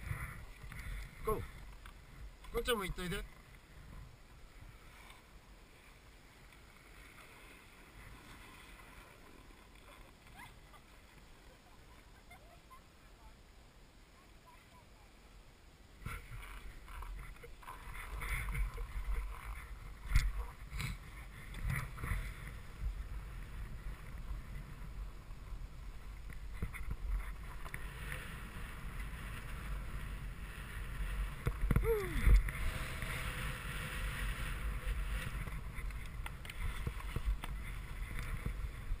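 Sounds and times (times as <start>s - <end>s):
skis scraping over snow: 0.0s - 12.6s, 16.0s - 39.0s
wind rumbling on microphone: 0.0s - 13.4s, 15.9s - 39.0s.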